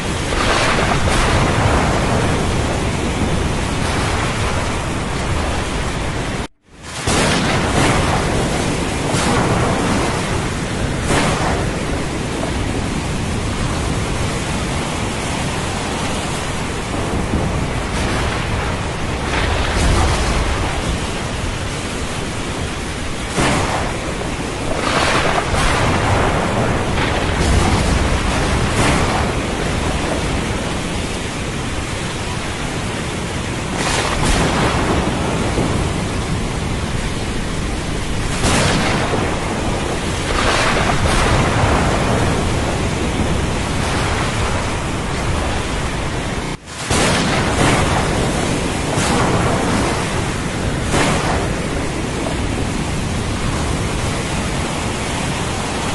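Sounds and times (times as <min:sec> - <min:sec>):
heavy rain: 0:00.0 - 0:55.9
rumbling thunder: 0:00.0 - 0:55.9.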